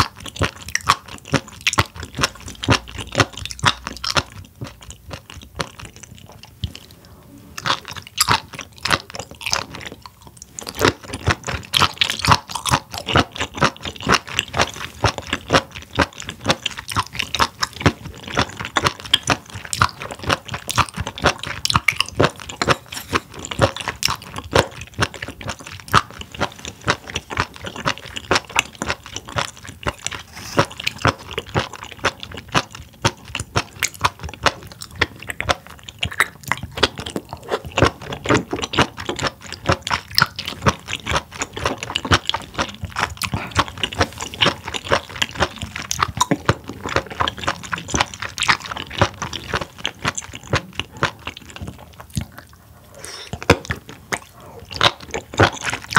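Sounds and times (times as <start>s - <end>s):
crunchy chewing: 0.0s - 7.0s, 7.6s - 55.9s.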